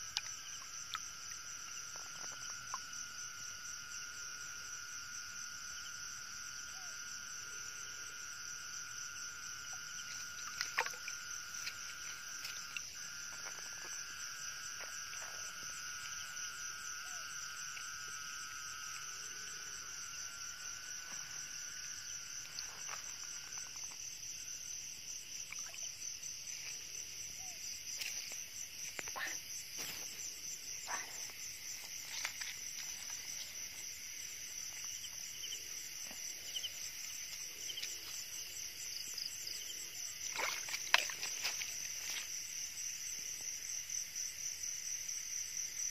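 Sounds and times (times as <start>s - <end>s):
insects and frogs trilling: 0.0s - 45.9s
low continuous tone: 0.0s - 45.9s.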